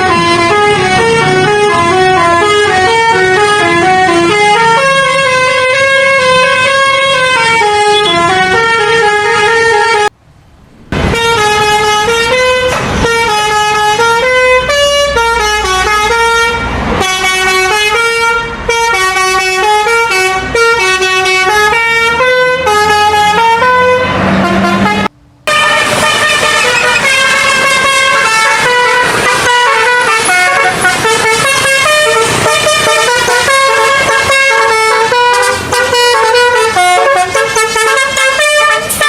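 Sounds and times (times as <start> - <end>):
multi-tone bus air horn melody: 0.0 - 10.2, 11.0 - 39.0.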